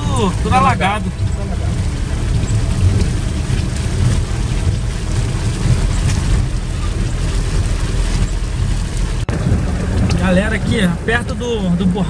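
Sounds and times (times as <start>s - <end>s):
engine and road rumble: 0.0s - 12.0s
rain on windshield: 0.0s - 12.0s
tyres on wet asphalt: 0.0s - 12.0s.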